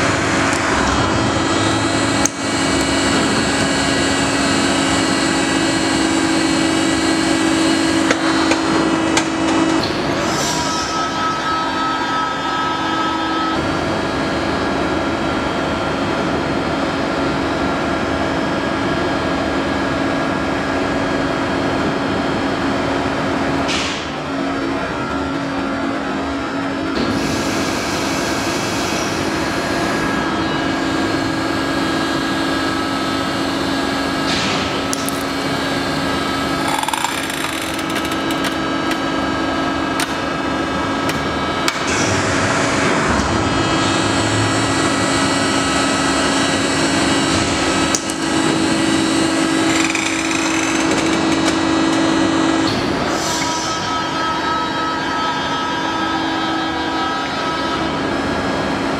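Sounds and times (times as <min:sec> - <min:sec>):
hydraulic pump drone: 0:00.0 - 0:58.9.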